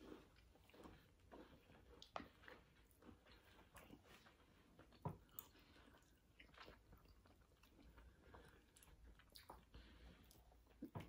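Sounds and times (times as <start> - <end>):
people chewing: 0.0 - 11.0.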